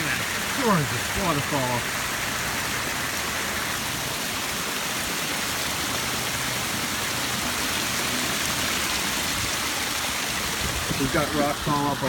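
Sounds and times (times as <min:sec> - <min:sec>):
water cascading over rocks: 0:00.0 - 0:12.0.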